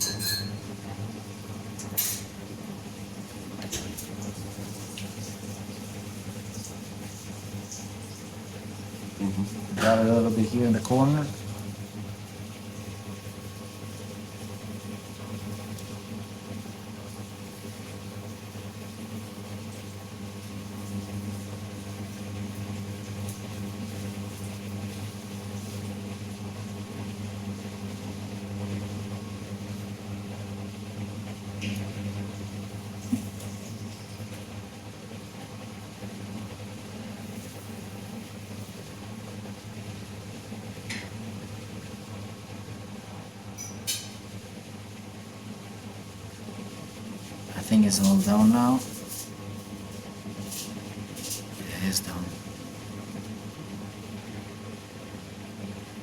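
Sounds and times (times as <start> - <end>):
electrical hum of small machine: 0.0 - 56.0.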